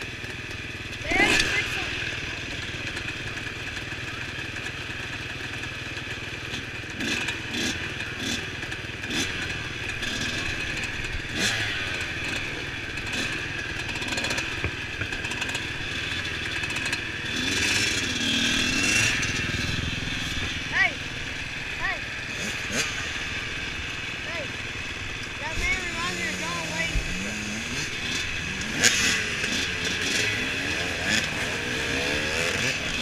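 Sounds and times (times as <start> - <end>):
dirt bike engines idling: 0.0 - 33.0.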